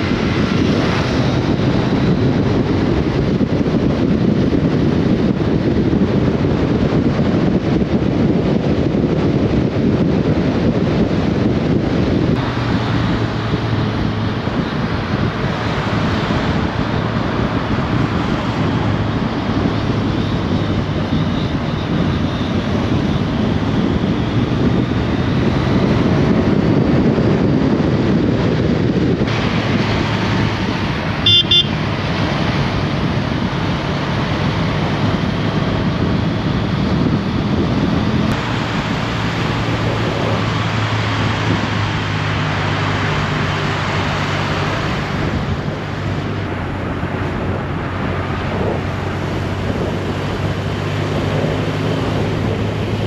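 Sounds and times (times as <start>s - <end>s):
motorcycle engine humming: 0.0s - 53.0s
wind rushing over microphone: 0.0s - 53.0s.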